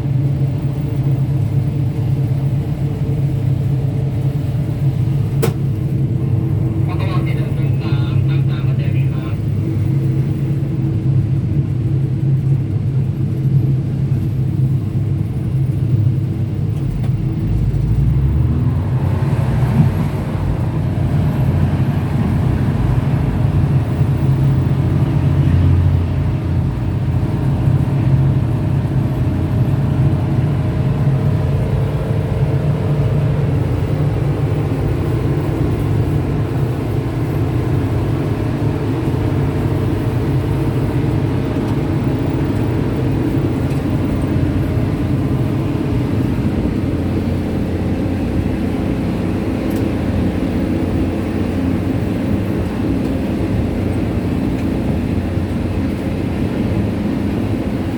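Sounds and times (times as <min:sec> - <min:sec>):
train rumbling with humming tones: 0:00.0 - 0:57.9.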